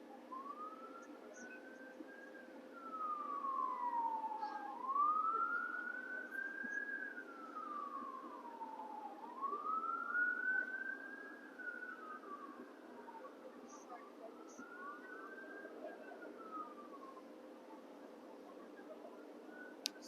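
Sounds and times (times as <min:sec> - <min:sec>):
steady background hum: 0:00.0 - 0:20.0
siren wailing: 0:00.2 - 0:19.1.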